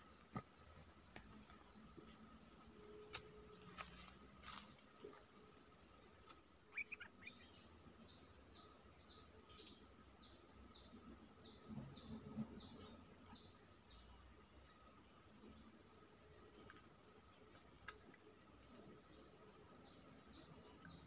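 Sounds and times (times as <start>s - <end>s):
faint songbird song: 0.0s - 21.0s.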